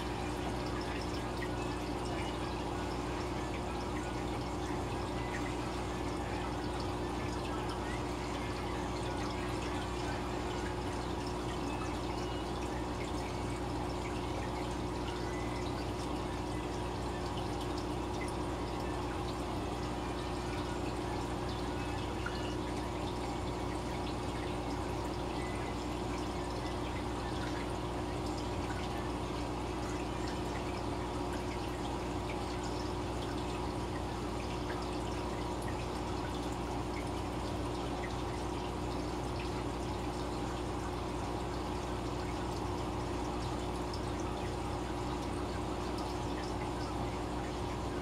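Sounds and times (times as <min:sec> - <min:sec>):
aquarium air bubbling: 0:00.0 - 0:48.0.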